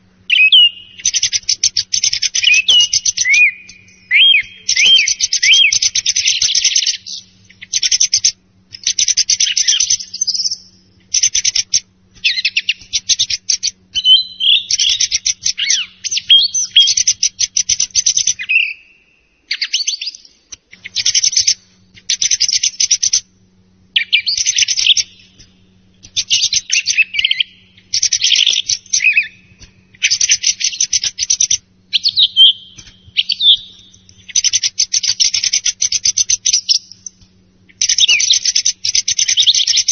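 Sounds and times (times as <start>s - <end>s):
song thrush singing: 0.0s - 23.3s, 23.9s - 39.9s.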